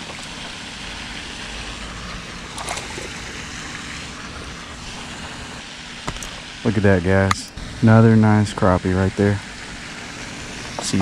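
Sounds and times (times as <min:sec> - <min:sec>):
water rushing: 0:00.0 - 0:11.0
wind: 0:00.0 - 0:11.0.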